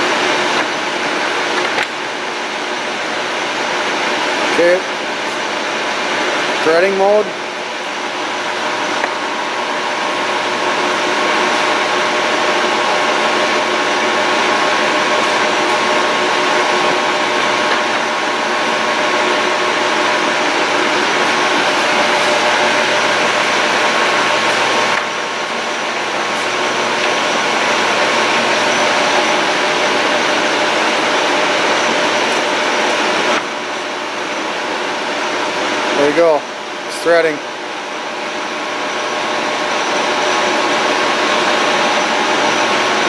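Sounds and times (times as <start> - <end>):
lathe running: 0.0 - 43.0.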